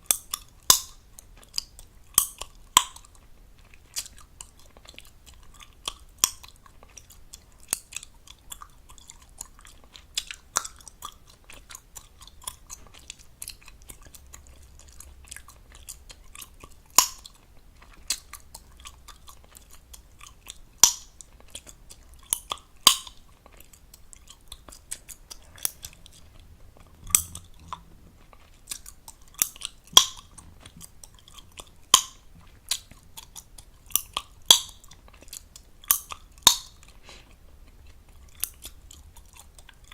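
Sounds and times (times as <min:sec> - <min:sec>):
wet mouth chewing gum: 0:00.0 - 0:39.9
gum pops: 0:00.1 - 0:36.8.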